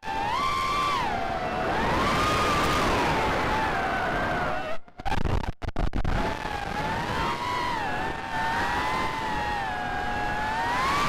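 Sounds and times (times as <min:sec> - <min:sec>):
drone motors whining: 0:00.0 - 0:04.8, 0:06.2 - 0:11.0.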